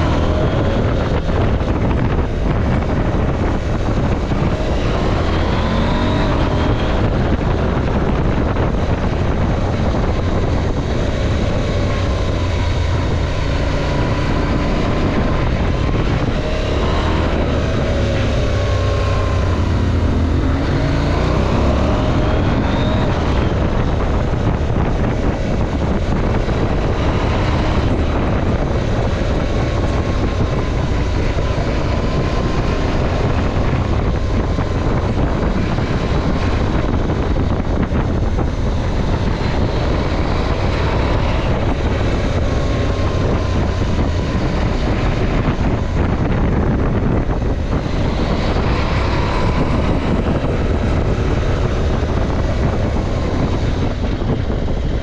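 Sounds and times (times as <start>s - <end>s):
motorcycle engine running: 0.0s - 55.0s
wind on microphone: 0.0s - 55.0s.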